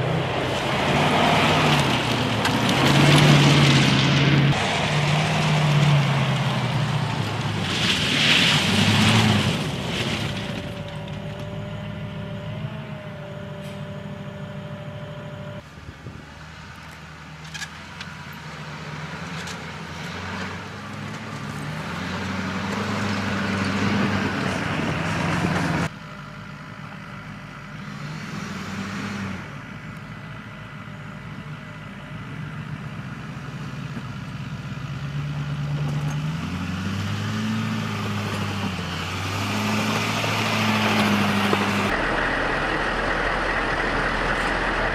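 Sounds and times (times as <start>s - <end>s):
military vehicle engines running: 0.0s - 44.9s.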